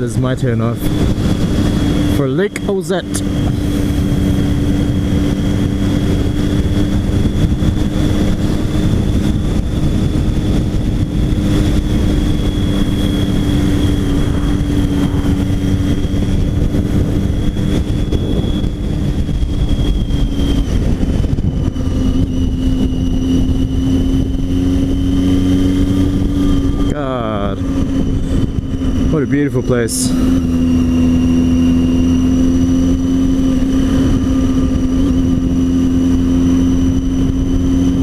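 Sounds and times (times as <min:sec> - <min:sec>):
motorcycle engine cruising: 0:00.0 - 0:38.0
wind rush: 0:00.0 - 0:38.0.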